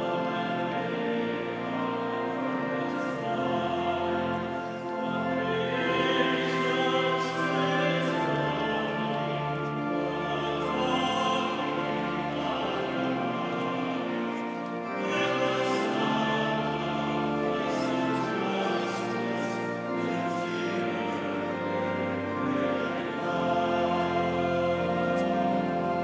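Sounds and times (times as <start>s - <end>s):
congregation singing a hymn: 0.0s - 26.0s
pipe organ: 0.0s - 26.0s.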